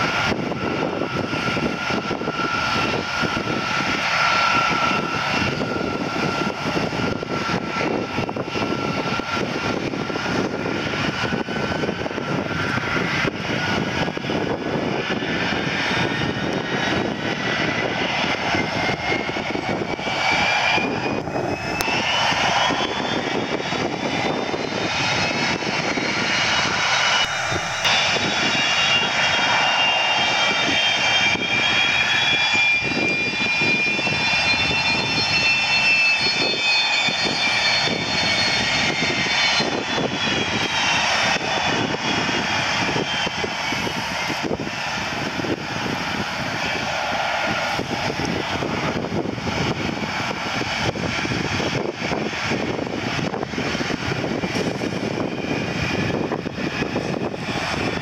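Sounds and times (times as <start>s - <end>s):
jet engine roar and whine: 0.0s - 58.0s.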